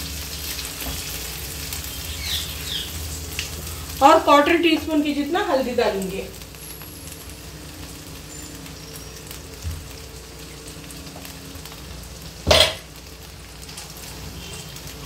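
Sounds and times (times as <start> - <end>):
liver frying in oil: 0.0 - 15.0.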